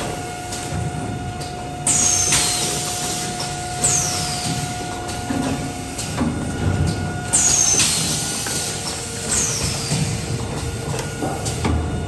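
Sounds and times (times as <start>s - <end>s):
machine whine and rumble: 0.0s - 12.0s.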